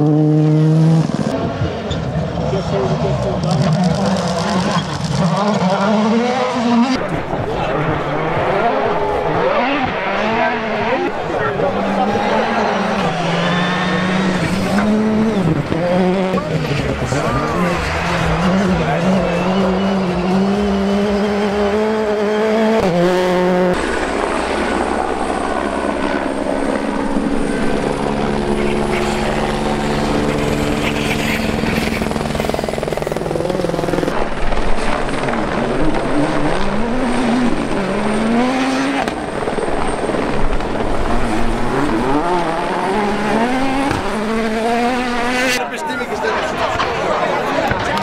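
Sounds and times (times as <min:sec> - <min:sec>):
rally car engines revving: 0:00.0 - 0:48.0.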